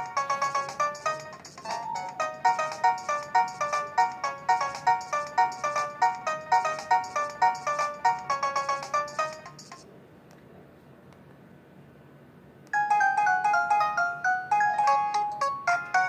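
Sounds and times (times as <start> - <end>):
phone ringtone melody: 0.0 - 9.8, 12.8 - 16.0.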